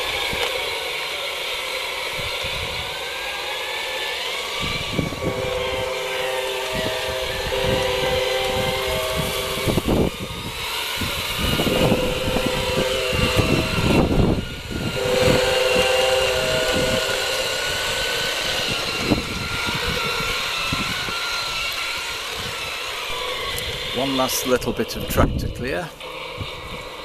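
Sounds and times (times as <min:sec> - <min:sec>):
model locomotive motors whining: 0:00.0 - 0:27.0.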